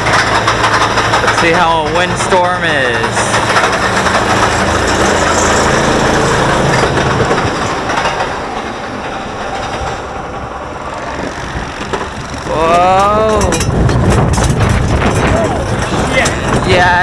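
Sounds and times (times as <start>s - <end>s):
roller coaster rattling on track: 0.0s - 17.0s.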